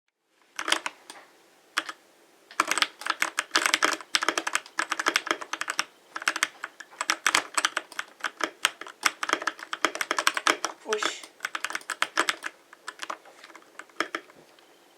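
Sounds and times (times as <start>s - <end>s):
mechanical keyboard typing: 0.6s - 1.2s, 1.8s - 14.4s.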